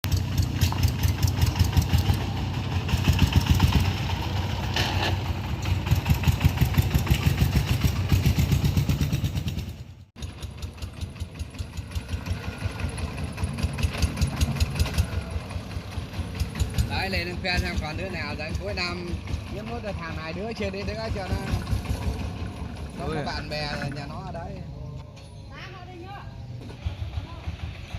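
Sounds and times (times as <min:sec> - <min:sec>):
farm vehicle engine pulsing: 0:00.0 - 0:27.9.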